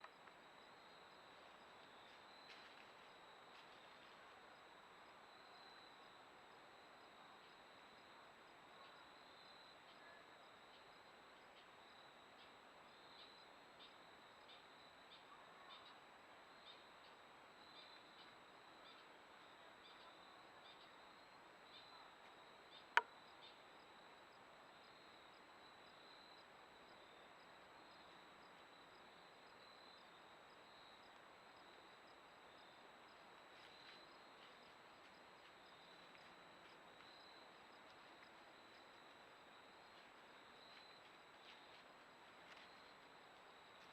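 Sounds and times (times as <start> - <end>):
faint insects chirping: 0.0 - 43.9.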